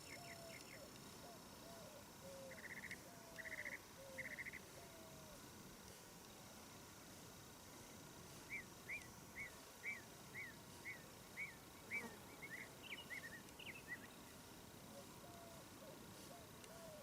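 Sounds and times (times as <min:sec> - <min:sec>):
bird singing: 0:00.0 - 0:05.2, 0:08.5 - 0:17.0.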